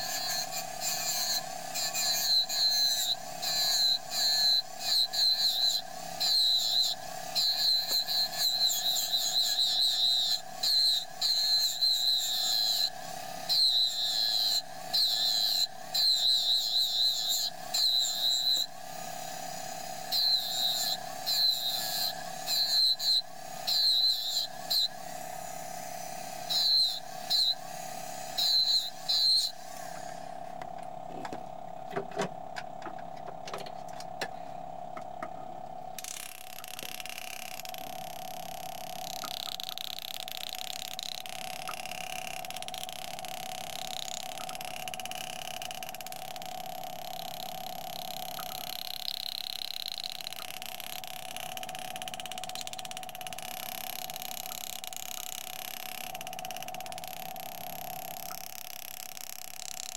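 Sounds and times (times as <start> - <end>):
pneumatic engraver buzzing: 0.0 - 59.9.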